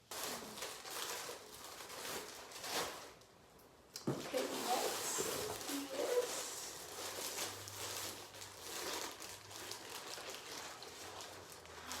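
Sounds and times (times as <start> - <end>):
plastic packaging crinkling: 0.0 - 3.3, 4.2 - 12.0.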